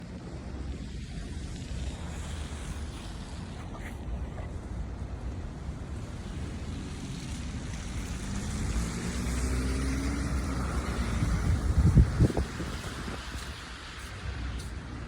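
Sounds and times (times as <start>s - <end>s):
vehicle passing with low rumble: 0.1s - 15.0s.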